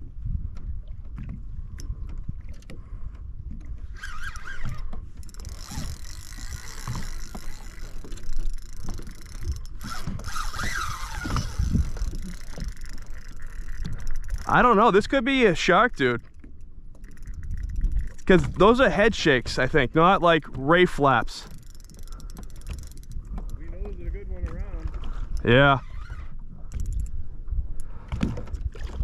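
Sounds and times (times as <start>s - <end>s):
water around a kayak: 0.0s - 29.0s
wind: 0.0s - 29.0s.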